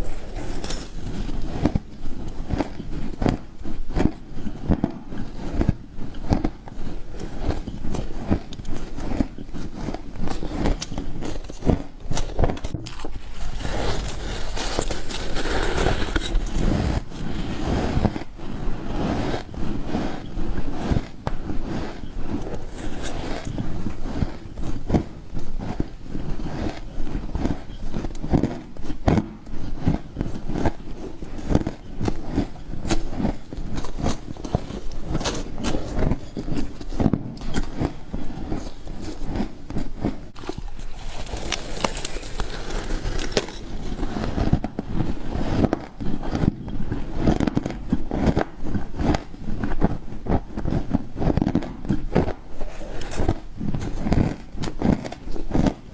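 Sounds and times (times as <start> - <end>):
chewing crunchy frost: 4.9 - 55.9.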